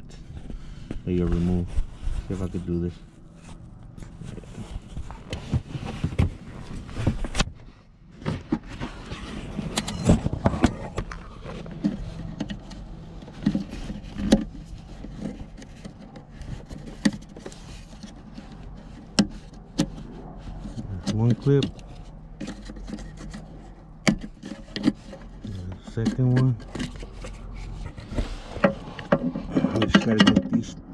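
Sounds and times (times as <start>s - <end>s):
handling scrapes: 0.1s - 30.4s.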